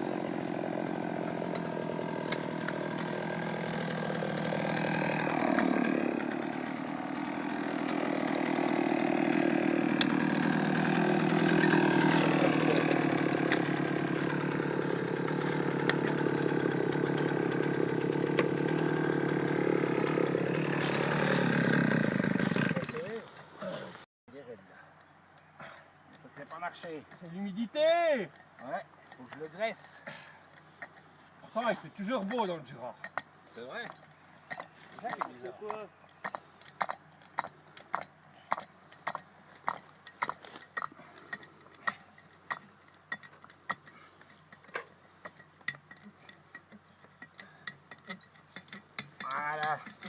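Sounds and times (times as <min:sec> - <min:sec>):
chainsaw engine running: 0:00.0 - 0:23.7, 0:31.6 - 0:50.0.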